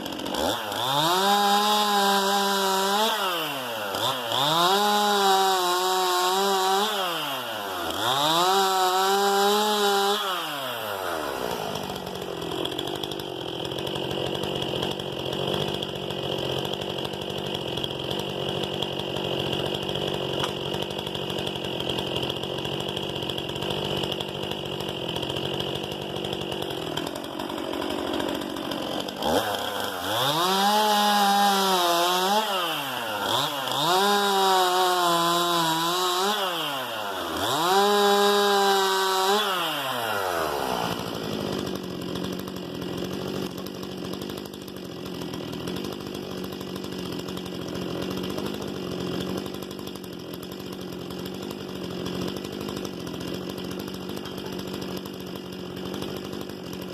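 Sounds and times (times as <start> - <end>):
chainsaw idling: 0.0 - 56.9
chainsaw running at high revs: 0.0 - 56.9.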